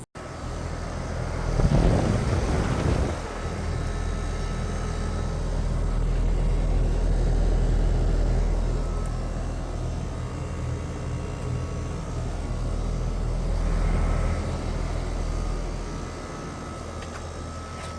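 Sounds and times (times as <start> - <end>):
air conditioner units humming: 0.0 - 17.9.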